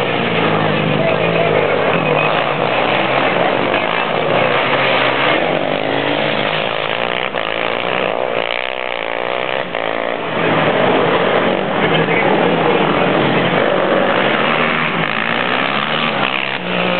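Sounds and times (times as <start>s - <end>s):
quad engine revving: 0.0s - 16.9s.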